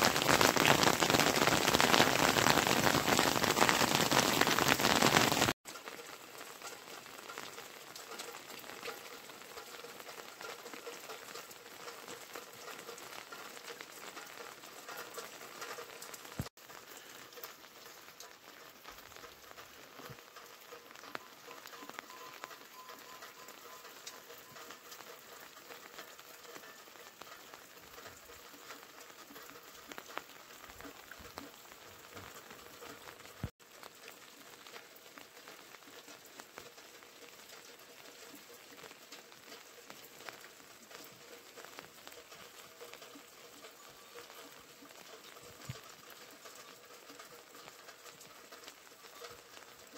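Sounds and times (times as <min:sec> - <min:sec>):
light rain pattering: 0:00.0 - 0:49.9.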